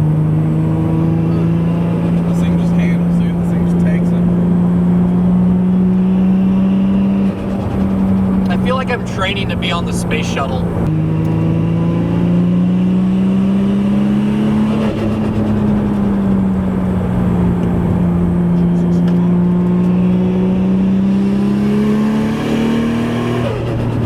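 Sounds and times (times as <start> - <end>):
car engine running under load: 0.0 - 24.0.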